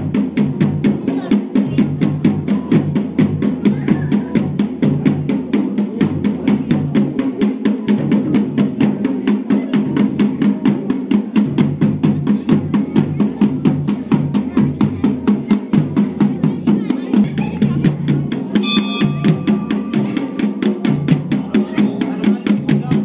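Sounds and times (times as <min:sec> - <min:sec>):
fast steady drumbeat: 0:00.0 - 0:23.0.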